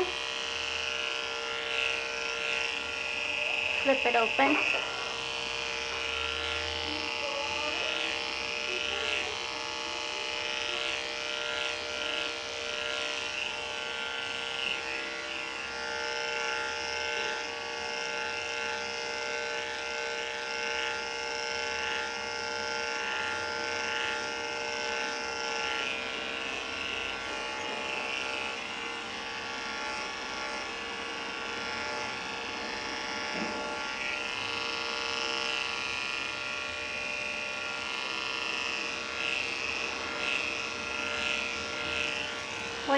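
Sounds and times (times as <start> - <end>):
dog clipper humming: 0.0 - 42.9.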